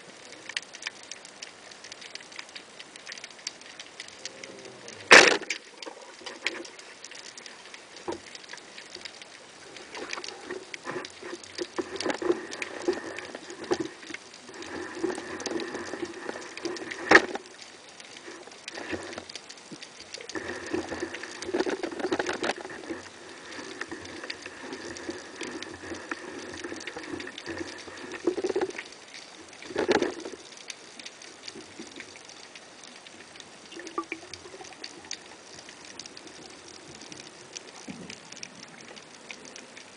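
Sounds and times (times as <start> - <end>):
faint steady hum: 0.0 - 39.9
underwater crackling and clicking: 0.0 - 39.9.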